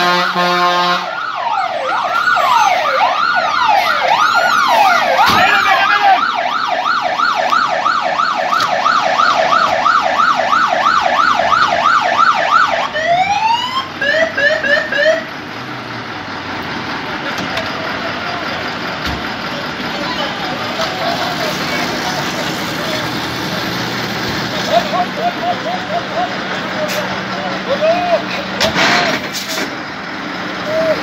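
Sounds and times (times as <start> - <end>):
fire engine siren: 0.0 - 15.5, 16.6 - 29.7.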